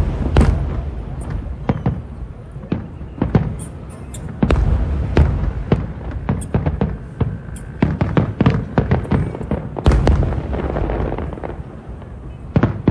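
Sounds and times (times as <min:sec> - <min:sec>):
continuous low rumble: 0:00.0 - 0:12.9
fireworks bursting with sharp bangs: 0:00.0 - 0:12.9.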